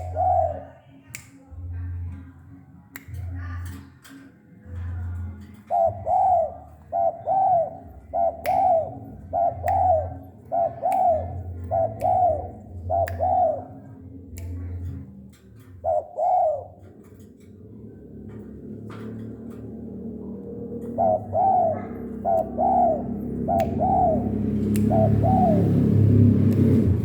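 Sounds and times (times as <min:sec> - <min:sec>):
dove cooing: 0:00.0 - 0:00.8, 0:05.6 - 0:27.0.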